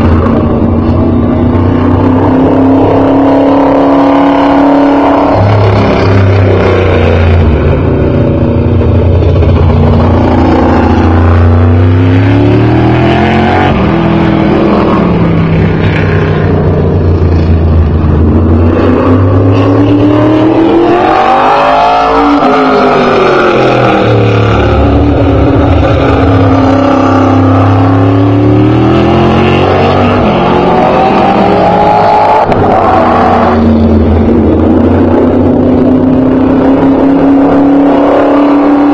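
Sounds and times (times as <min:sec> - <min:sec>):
race car engine at speed: 0:00.0 - 0:38.9.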